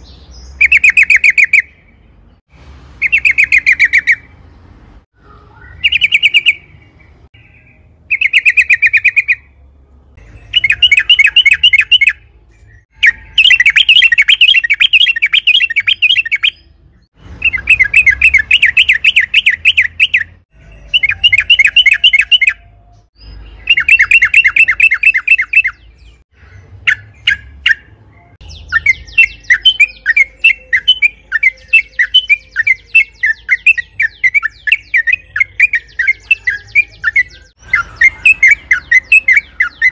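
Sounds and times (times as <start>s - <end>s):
bird singing rapid notes: 0.0s - 2.4s, 3.0s - 39.9s.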